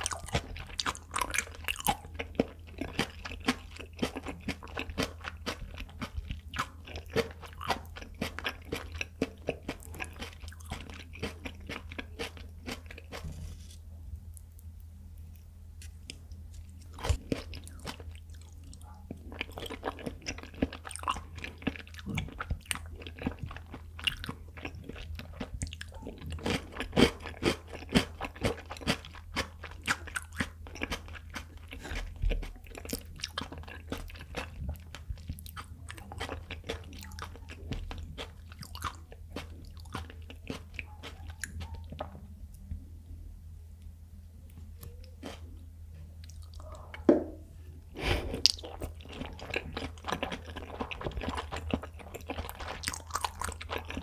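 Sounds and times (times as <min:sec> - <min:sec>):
wet chewing and biting: 0:00.0 - 0:13.7, 0:15.8 - 0:42.2, 0:48.0 - 0:54.0
faint low hum: 0:00.0 - 0:54.0.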